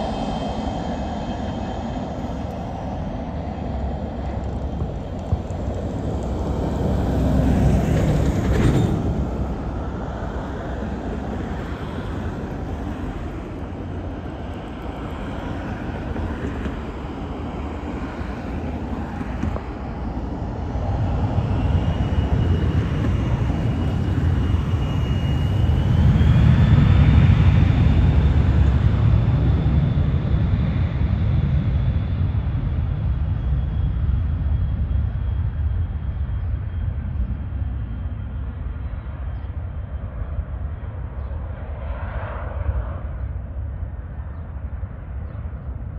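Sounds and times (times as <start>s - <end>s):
jet engines rumbling: 0.0s - 45.9s
turbine whine: 0.0s - 45.9s.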